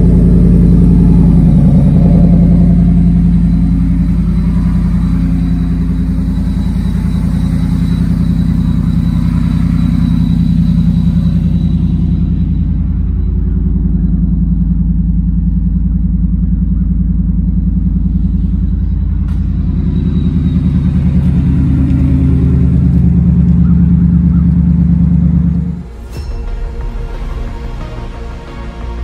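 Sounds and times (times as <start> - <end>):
truck engine idling: 0.0 - 29.0.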